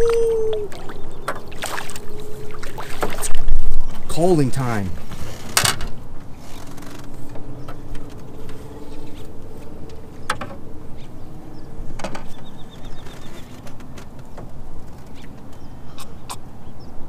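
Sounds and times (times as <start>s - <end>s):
faint steady hum: 0.0s - 13.8s.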